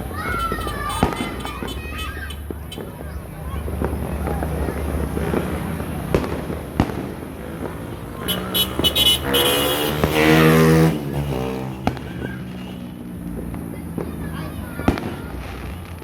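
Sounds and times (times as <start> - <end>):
firecracker bangs: 0.1 - 16.0.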